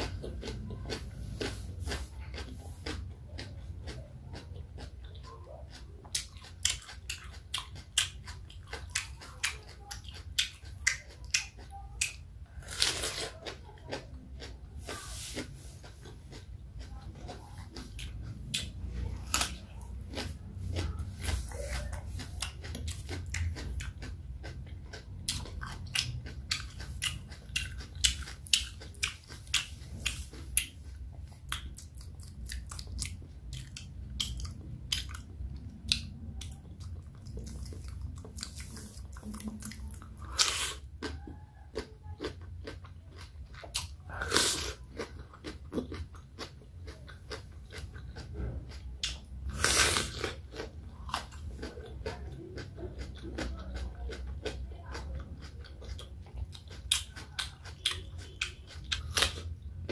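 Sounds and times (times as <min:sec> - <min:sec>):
person crunching and chewing cucumber: 0:00.0 - 0:59.9.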